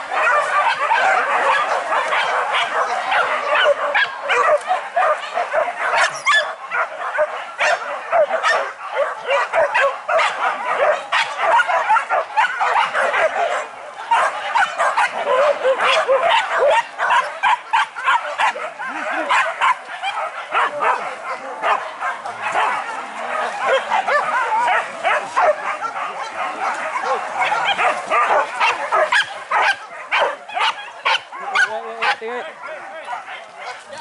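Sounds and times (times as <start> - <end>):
dogs barking and yelping: 0.0 - 34.0.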